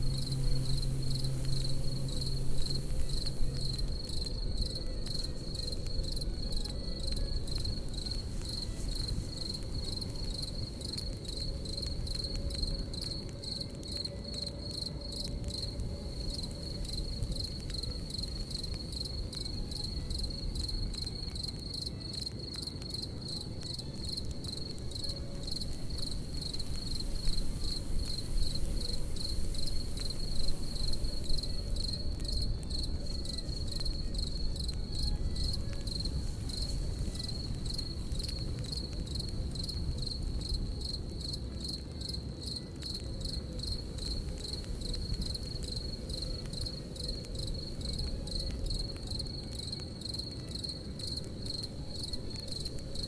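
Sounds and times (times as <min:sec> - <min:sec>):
campfire rumble and crackles: 0:00.0 - 0:53.0
crickets chirping: 0:00.0 - 0:53.0.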